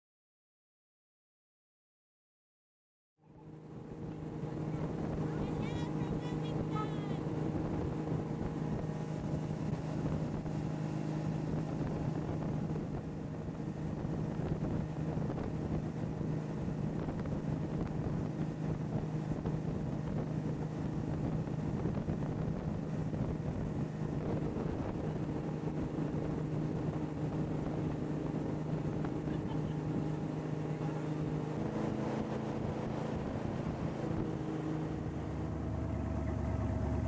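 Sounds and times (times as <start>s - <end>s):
motorboat engine running: 3.2s - 37.0s
wind buffeting microphone: 3.7s - 37.0s.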